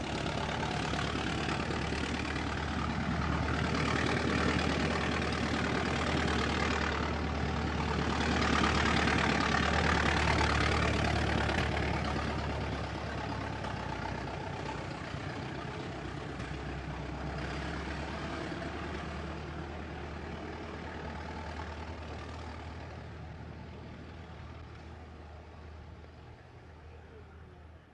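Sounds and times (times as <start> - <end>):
car engine chugging: 0.0 - 27.8.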